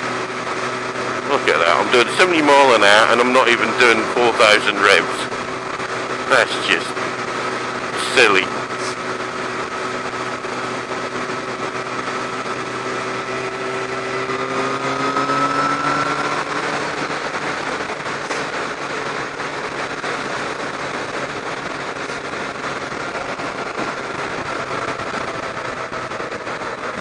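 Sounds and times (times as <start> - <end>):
motorcycle engine cruising: 0.0 - 27.0
wind and road noise: 0.0 - 27.0.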